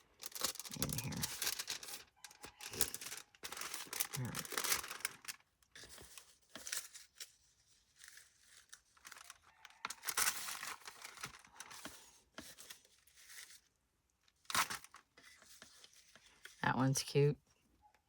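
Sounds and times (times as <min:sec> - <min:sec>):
paper rustling and crinkling: 0:00.0 - 0:16.6.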